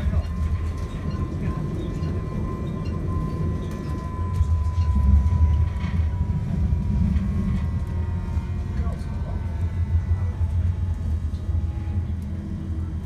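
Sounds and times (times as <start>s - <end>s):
high-pitched whine: 0.0s - 13.0s
wheels rumbling on track: 0.0s - 13.0s.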